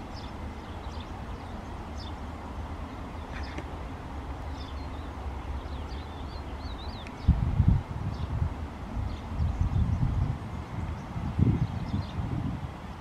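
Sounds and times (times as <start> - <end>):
small birds chirping: 0.0 - 3.8, 4.4 - 8.4, 9.0 - 13.0
steady low rumble: 0.0 - 13.0.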